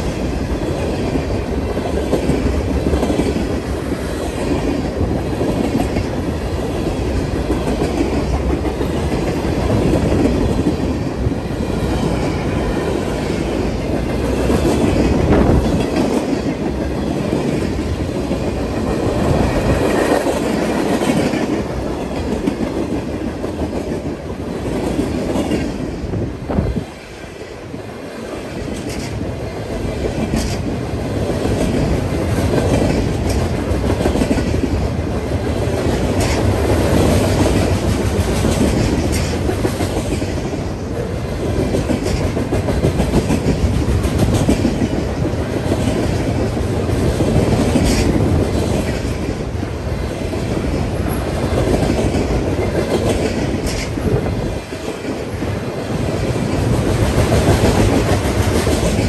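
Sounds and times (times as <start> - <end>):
clickety-clack of wheels: 0.0 - 11.1, 11.7 - 26.1, 28.4 - 59.0
freight cars rumbling on rail: 0.0 - 59.0.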